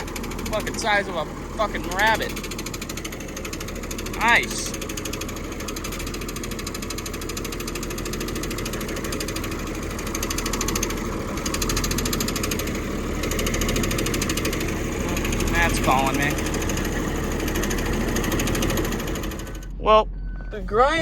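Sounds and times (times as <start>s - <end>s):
diesel engine clattering: 0.0s - 21.0s.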